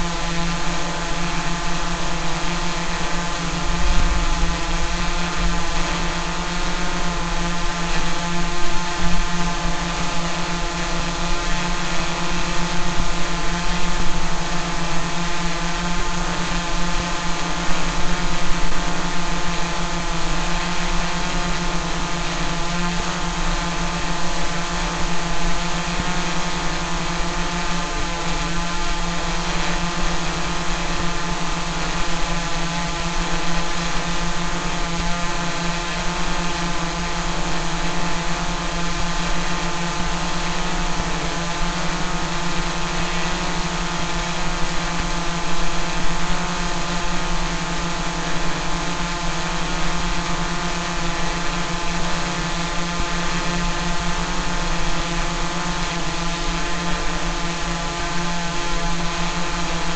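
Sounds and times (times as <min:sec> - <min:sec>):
drone buzzing: 0:00.0 - 0:59.9.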